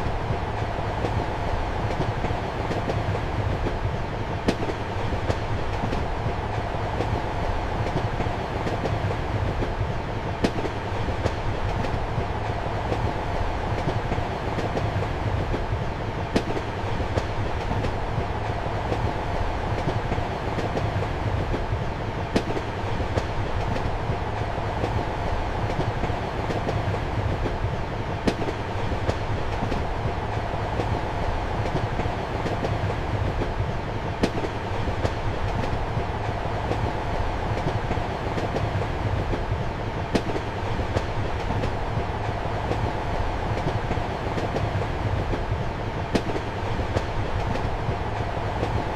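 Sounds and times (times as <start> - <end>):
train rumble and hum: 0.0 - 48.9.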